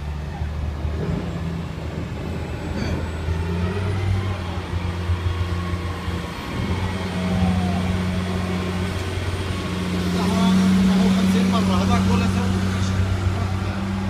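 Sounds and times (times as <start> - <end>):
traffic engines droning: 0.0 - 14.0.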